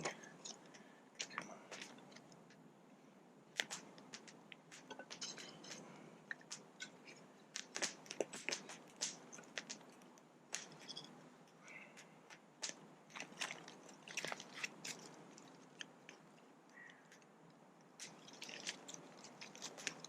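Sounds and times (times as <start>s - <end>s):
kindling fire crackling: 0.0s - 20.0s.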